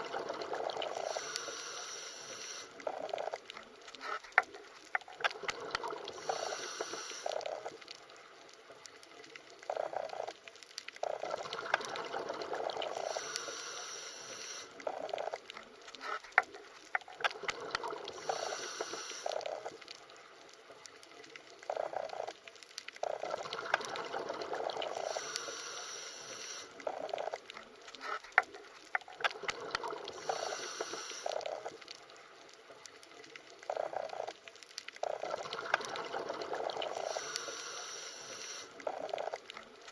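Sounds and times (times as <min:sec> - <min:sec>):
water bubbling underwater: 0:00.0 - 0:01.6, 0:02.7 - 0:13.6, 0:14.7 - 0:25.6, 0:26.7 - 0:37.6, 0:38.4 - 0:39.9.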